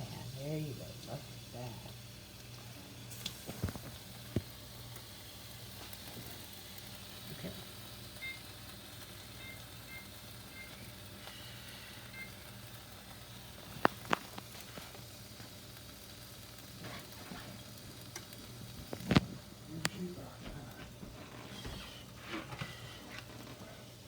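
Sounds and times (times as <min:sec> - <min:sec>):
meat sizzling in a frying pan: 0:00.0 - 0:24.0.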